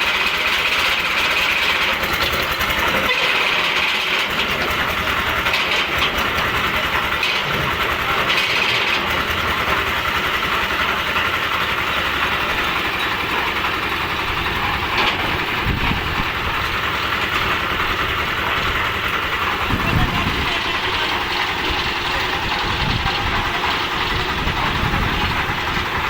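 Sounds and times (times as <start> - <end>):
concrete mixer engine running: 0.0 - 26.0.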